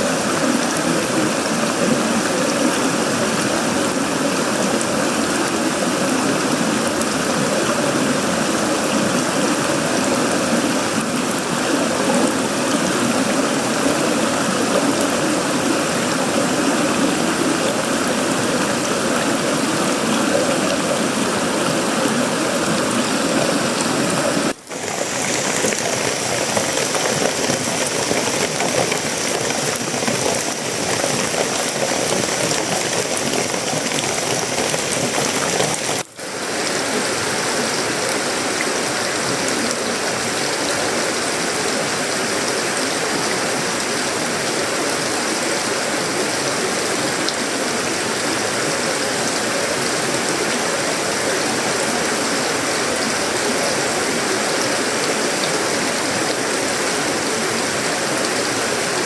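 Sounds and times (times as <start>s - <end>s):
heavy rain on a metal roof: 0.0s - 59.0s.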